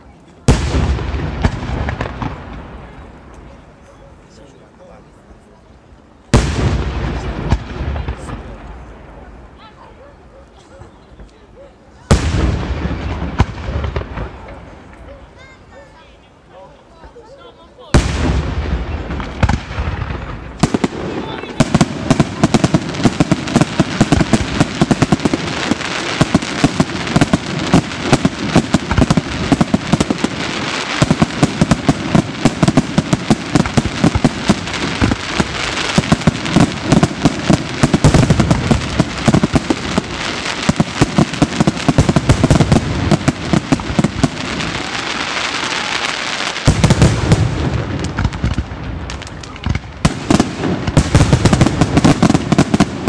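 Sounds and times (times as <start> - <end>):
crackling firework stars: 0.0 - 53.0.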